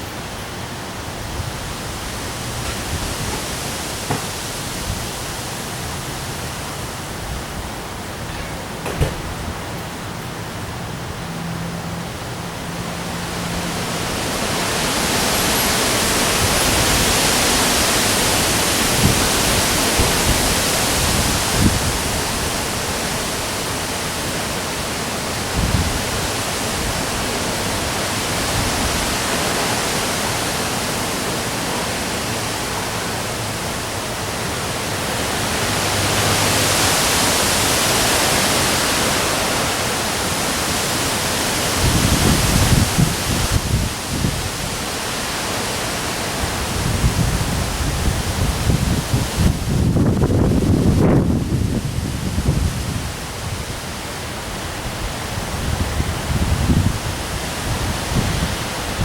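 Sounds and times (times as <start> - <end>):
heavy rain: 0.0 - 59.0
strong wind: 0.0 - 59.0.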